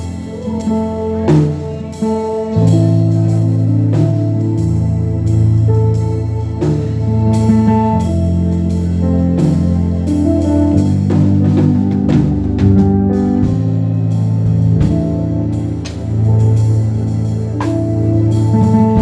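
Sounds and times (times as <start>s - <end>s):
sustained pitched tones: 0.0s - 19.0s.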